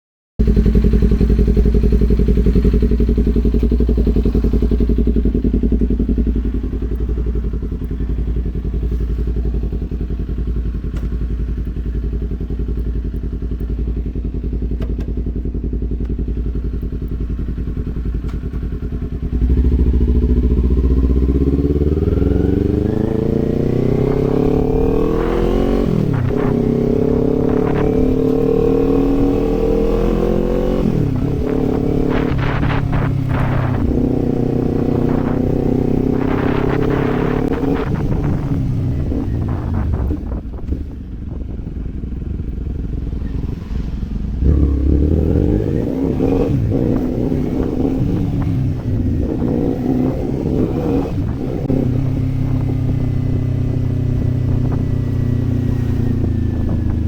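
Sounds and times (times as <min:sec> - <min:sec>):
motorcycle engine idling and revving: 0:00.4 - 0:57.0.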